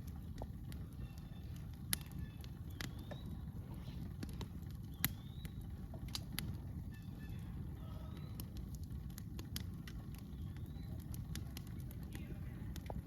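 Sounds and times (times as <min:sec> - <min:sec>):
campfire wood crackling: 0:00.0 - 0:13.0
low steady rumble: 0:00.0 - 0:13.0.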